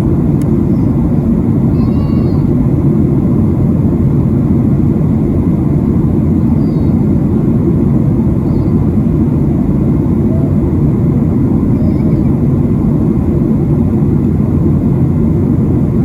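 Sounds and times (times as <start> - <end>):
air rushing along fuselage: 0.0 - 16.0
airplane cabin engine roar: 0.0 - 16.0.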